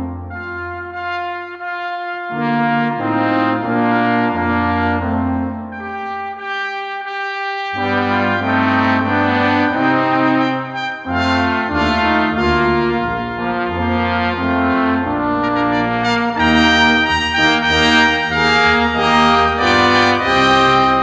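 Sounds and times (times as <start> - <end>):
brass quintet playing carol: 0.0 - 21.0.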